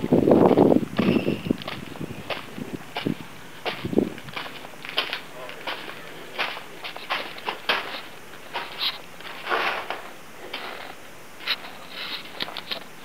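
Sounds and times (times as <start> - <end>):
scuffing and rustling: 0.0 - 13.0.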